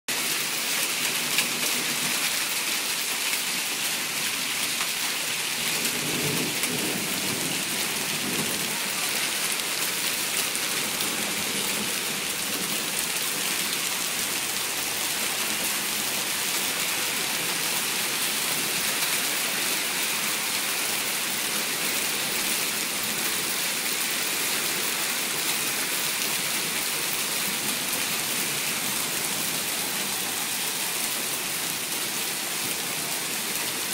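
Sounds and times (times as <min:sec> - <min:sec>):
hail and rain pelting down: 0:00.1 - 0:33.9.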